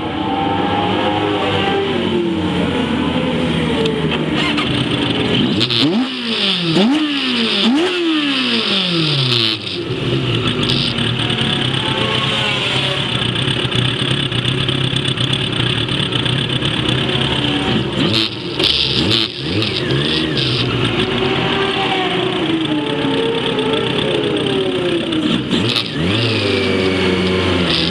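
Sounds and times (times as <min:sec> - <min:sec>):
race car engine downshifting: 0:00.0 - 0:27.9.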